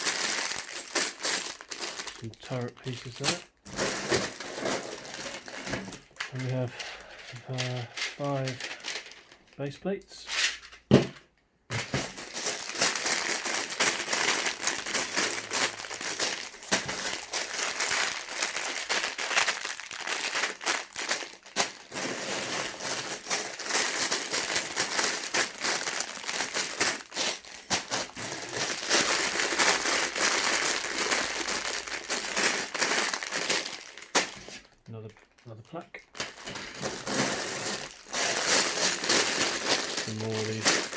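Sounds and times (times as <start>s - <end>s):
plastic bags crinkling: 0.0s - 9.6s, 11.7s - 40.9s.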